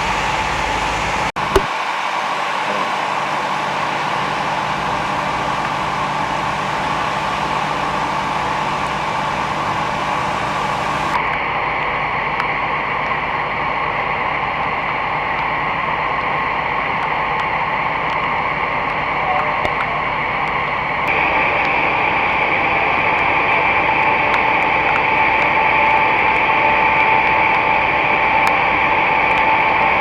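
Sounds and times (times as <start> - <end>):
constant noisy rush: 0.0 - 30.0
steady mechanical hum: 0.0 - 30.0.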